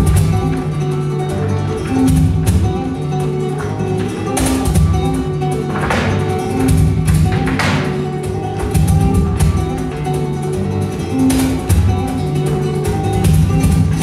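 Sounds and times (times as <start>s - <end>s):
flamenco guitar playing: 0.0s - 14.0s.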